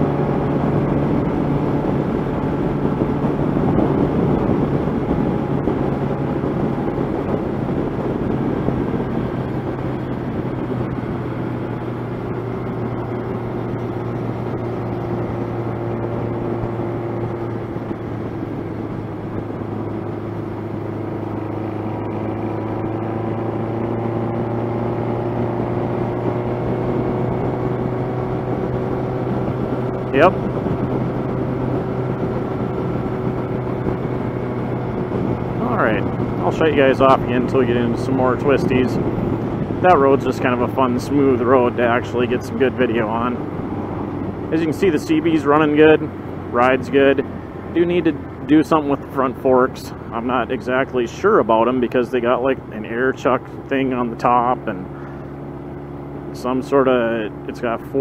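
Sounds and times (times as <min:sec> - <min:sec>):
wind noise: 0:00.0 - 0:56.1
motorcycle engine cruising: 0:00.0 - 0:58.0.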